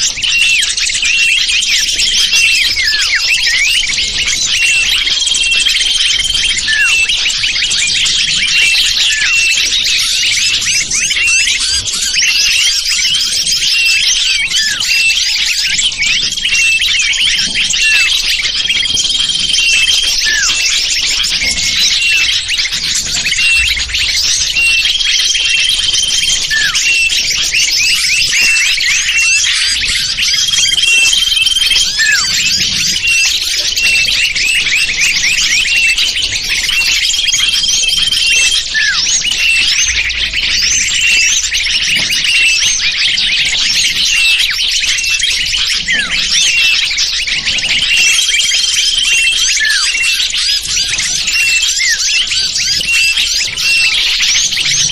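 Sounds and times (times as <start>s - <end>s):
small birds chirping and twittering: 0.0s - 54.9s.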